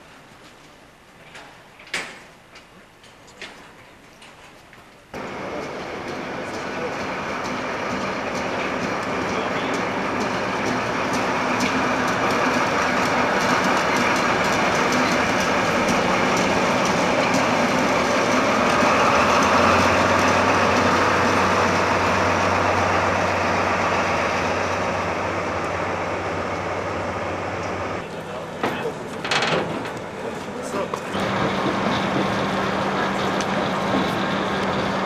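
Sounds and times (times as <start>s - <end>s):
diesel locomotive engines rumbling: 5.0s - 35.0s
low engine hum: 5.2s - 29.0s, 30.0s - 35.0s.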